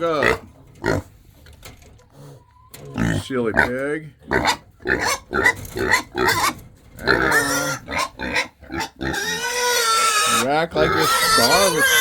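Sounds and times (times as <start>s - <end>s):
pigs grunting: 0.0s - 1.2s, 2.1s - 12.0s.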